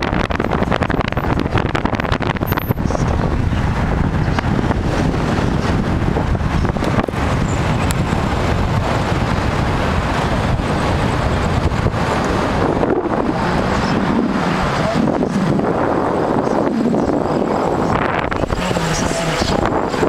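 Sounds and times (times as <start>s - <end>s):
road and traffic rumble: 0.0s - 20.0s
wind buffeting microphone: 0.0s - 20.0s.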